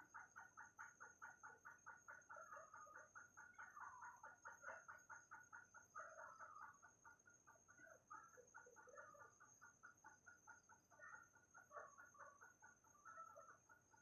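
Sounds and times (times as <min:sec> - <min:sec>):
rapid clucking animal calls: 0:00.0 - 0:14.0.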